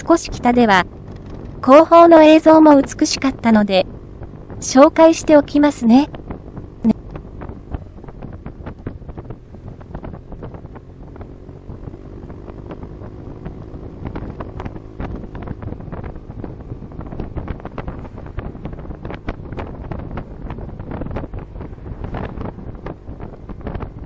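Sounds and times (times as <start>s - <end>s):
faint scooter engine drone: 0.0s - 24.0s
wind buffeting microphone: 0.0s - 24.0s.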